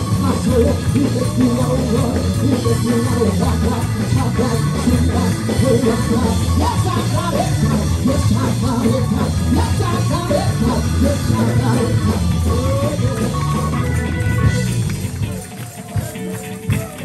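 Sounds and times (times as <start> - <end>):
worship music with heavy bass: 0.0 - 17.0.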